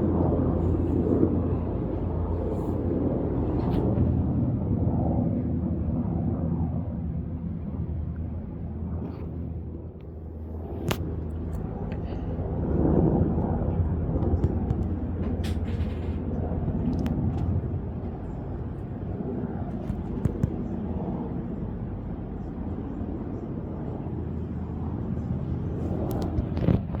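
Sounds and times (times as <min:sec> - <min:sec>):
helicopter low rumble: 0:00.0 - 0:27.0.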